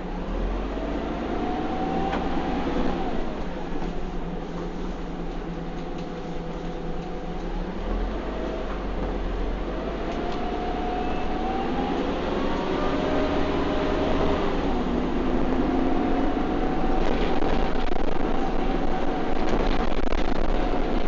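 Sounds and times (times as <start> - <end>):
bus engine accelerating: 0.0 - 21.0
whining transmission tones: 0.0 - 21.0.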